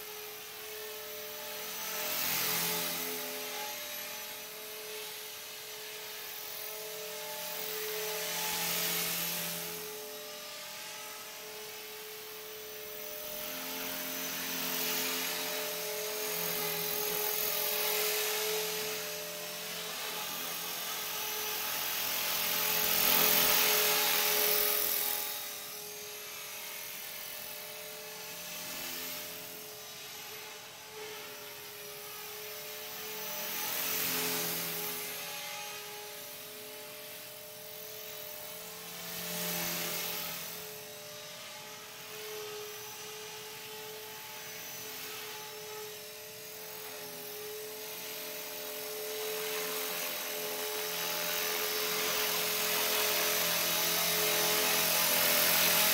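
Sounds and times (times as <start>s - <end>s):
rc helicopter motor and rotors whining: 0.0s - 55.9s.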